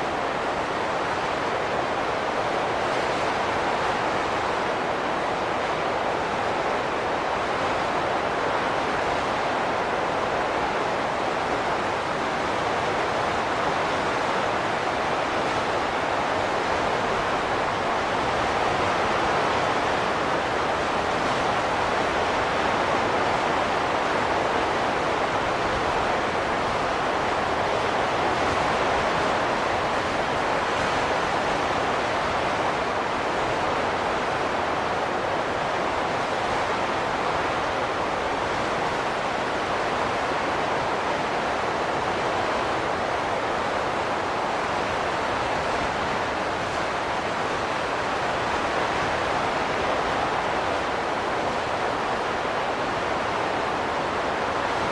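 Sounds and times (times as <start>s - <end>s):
steady rushing wind: 0.0s - 54.9s.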